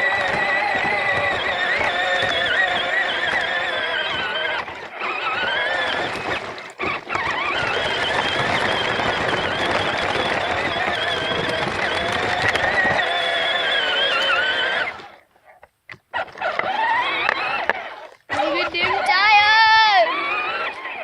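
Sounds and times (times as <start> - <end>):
tractor motor whining: 0.0 - 15.3, 15.9 - 21.0.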